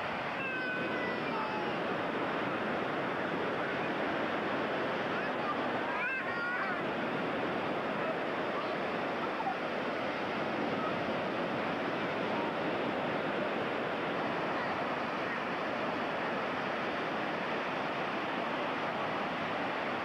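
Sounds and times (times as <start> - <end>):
ocean surf washing: 0.0 - 20.0.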